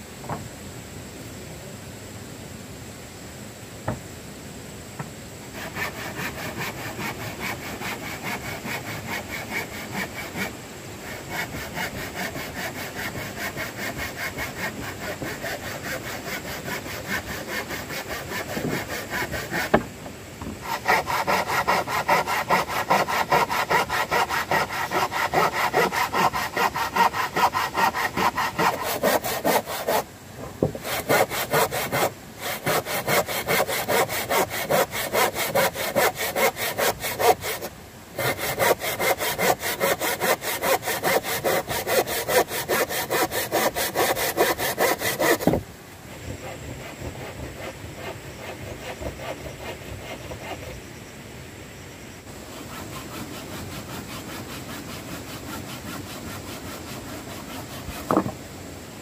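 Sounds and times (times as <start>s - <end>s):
hand saw cutting wood: 5.6s - 19.9s, 20.5s - 45.6s, 46.3s - 50.8s, 52.4s - 58.4s.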